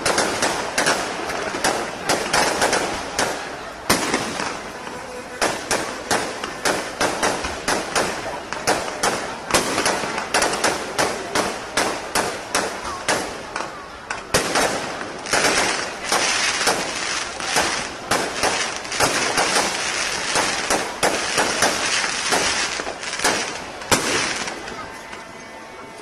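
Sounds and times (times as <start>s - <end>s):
crackling hiss: 0.0s - 25.4s
fireworks banging: 0.0s - 25.5s.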